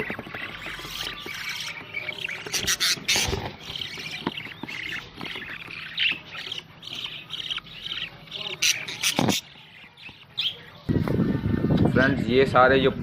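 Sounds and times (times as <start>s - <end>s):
budgerigars chirping and chattering: 0.0s - 11.5s.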